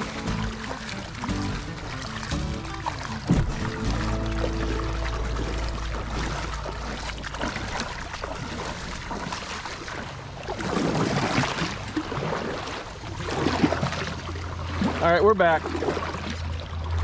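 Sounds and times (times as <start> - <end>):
water splashing around kayak: 0.0 - 17.0.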